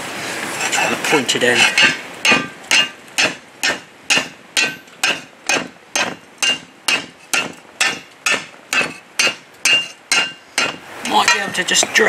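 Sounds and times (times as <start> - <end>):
hammer striking steel on anvil: 1.6 - 11.6.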